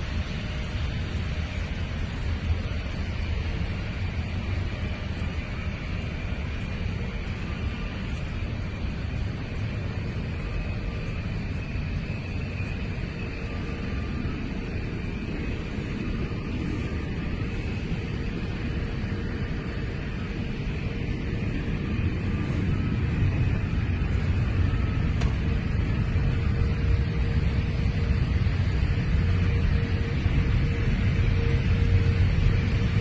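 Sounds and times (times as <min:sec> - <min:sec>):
faint steady hum: 0:00.0 - 0:33.0
jet engines rumbling: 0:00.0 - 0:33.0.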